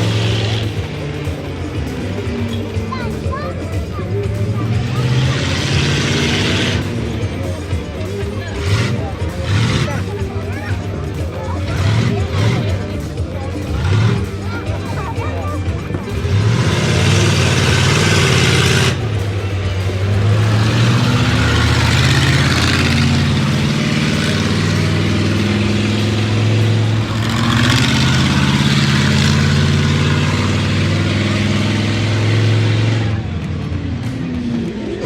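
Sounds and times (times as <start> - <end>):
truck engine revving loud: 0.0 - 35.0.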